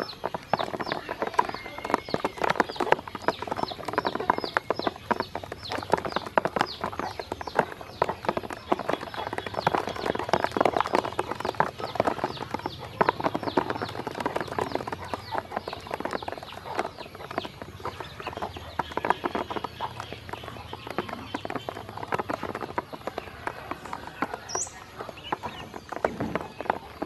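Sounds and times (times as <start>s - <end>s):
bills and feet tapping plastic basin: 0.0s - 27.0s
ducklings peeping: 0.0s - 27.0s.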